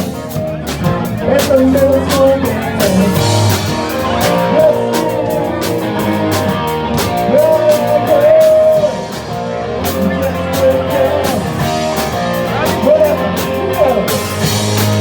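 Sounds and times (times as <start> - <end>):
electric guitar lead line: 0.0 - 15.0
live rock band playing: 0.0 - 15.0
steady drum beat: 0.0 - 15.0.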